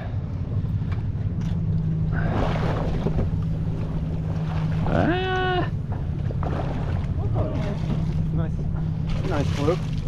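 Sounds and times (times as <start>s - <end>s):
boat motor idling: 0.0s - 10.0s
water noise: 0.0s - 10.0s
wind: 0.0s - 10.0s.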